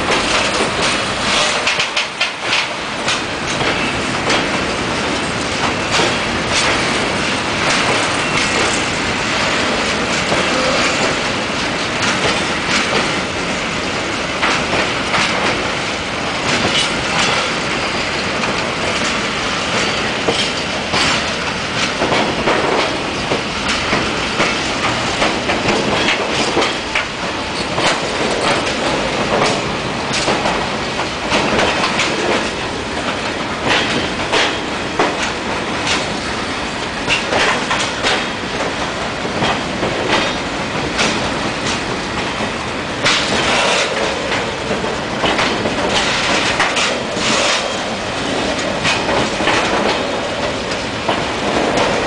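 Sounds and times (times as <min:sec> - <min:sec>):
wheel clacks: 0:00.0 - 0:36.2, 0:36.8 - 0:52.0
train wheels rumbling on rails: 0:00.0 - 0:52.0.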